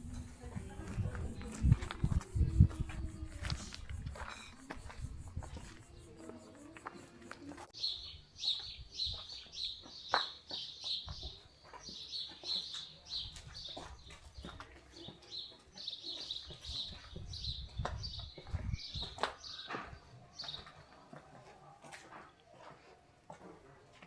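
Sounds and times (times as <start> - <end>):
footsteps: 0.0 - 7.8, 8.4 - 24.0
small birds chirping: 0.4 - 20.9.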